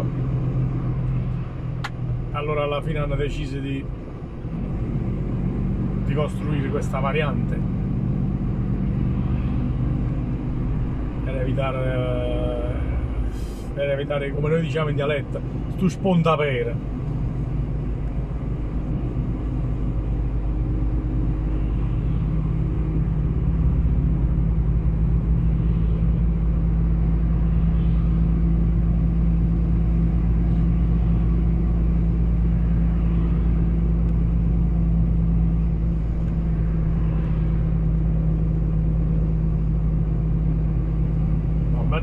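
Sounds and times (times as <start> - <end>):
truck engine drone in cab: 0.0 - 42.0.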